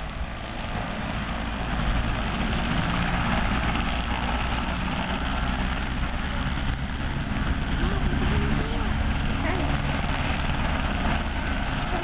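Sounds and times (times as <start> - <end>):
helicopter engine whine: 0.0 - 12.0
helicopter rotor drone: 0.0 - 12.0.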